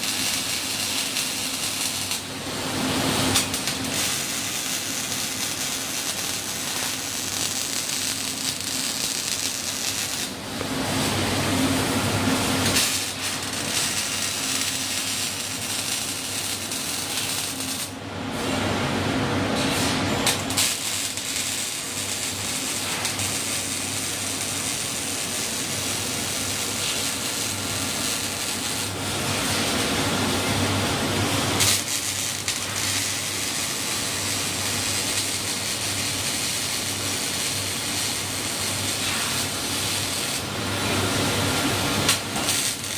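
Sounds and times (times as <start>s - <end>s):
welding arc sizzling and crackling: 0.0s - 18.8s, 19.6s - 42.9s.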